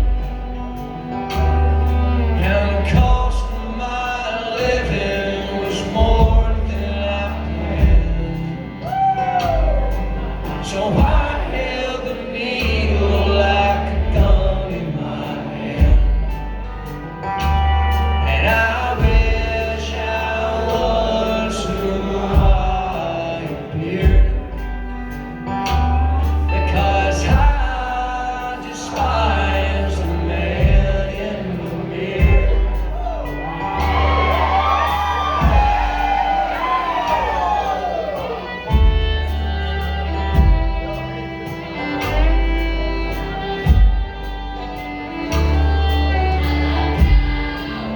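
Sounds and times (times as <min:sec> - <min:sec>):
acoustic country band playing: 0:00.0 - 0:47.9.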